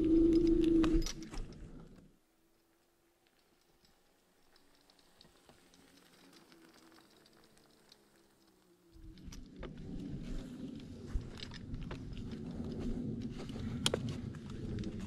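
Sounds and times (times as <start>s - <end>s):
tyres crackling over dirt trail: 0.0s - 15.0s.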